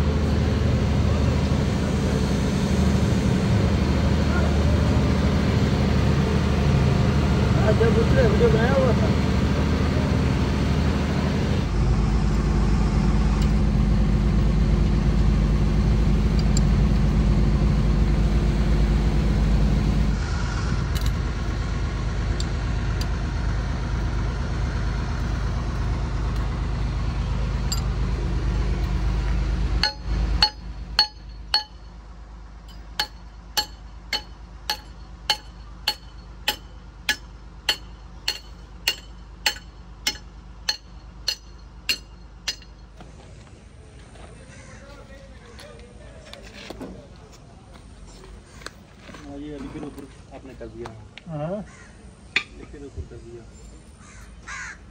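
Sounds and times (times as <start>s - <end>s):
low engine drone: 0.0s - 54.9s.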